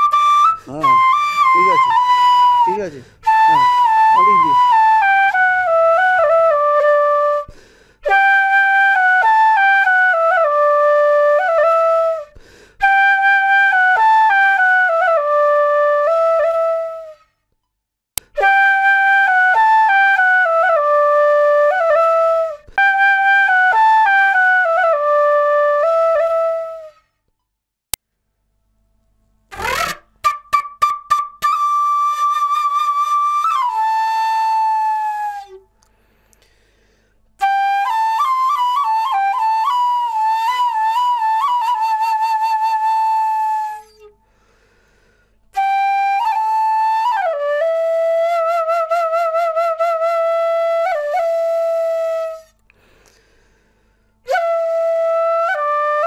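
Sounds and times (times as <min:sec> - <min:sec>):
slow flute melody: 0:00.0 - 0:17.4, 0:18.2 - 0:27.2, 0:29.5 - 0:35.8, 0:37.4 - 0:44.6, 0:45.5 - 0:53.3, 0:54.2 - 0:56.0.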